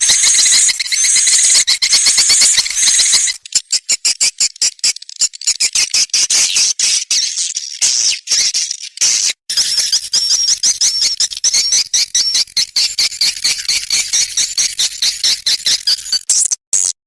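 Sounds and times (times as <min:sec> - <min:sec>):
clicking bird chirps: 0:00.0 - 0:17.0
high buzzing bird twitter: 0:00.0 - 0:17.0.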